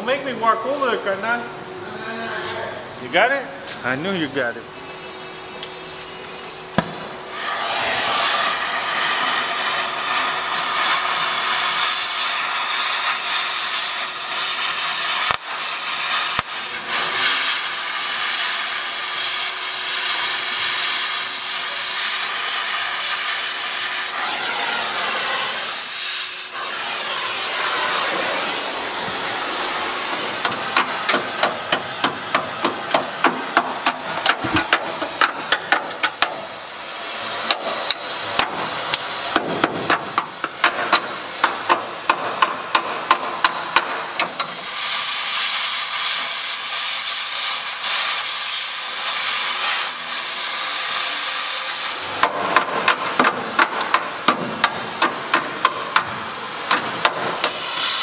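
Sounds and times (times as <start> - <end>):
cutting torch hissing: 6.7 - 58.0.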